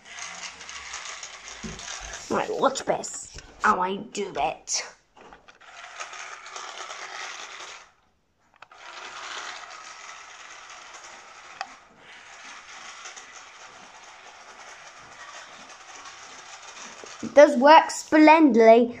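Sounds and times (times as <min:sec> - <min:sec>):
toy motor and gears whirring: 0:00.0 - 0:18.2.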